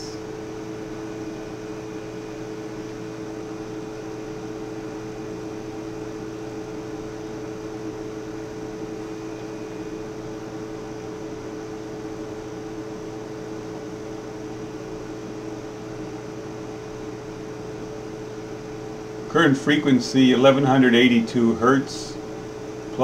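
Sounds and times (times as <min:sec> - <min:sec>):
electrical equipment hum: 0:00.0 - 0:23.0.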